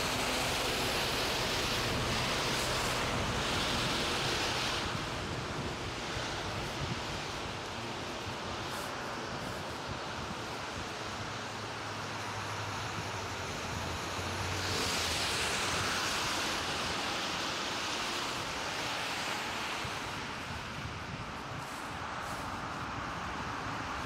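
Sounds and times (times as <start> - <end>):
tyres hissing on wet road: 0.0 - 24.0.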